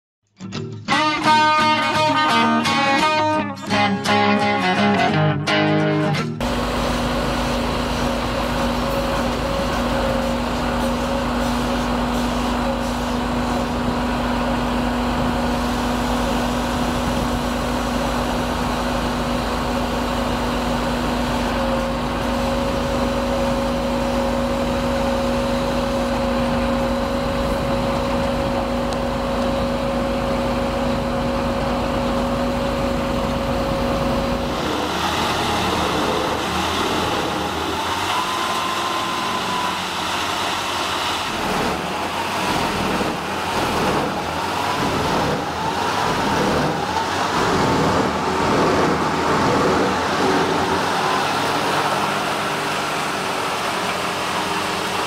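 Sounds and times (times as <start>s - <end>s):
wood chipper whining: 6.3s - 55.0s
firewood processor humming: 6.4s - 55.0s.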